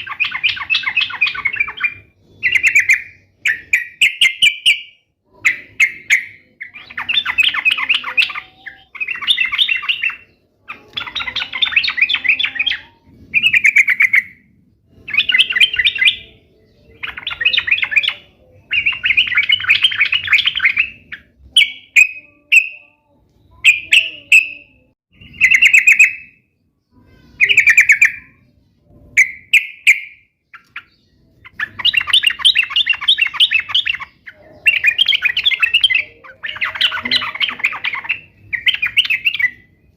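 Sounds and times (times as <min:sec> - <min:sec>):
bulbul singing rapid chattering: 0:00.0 - 0:39.9.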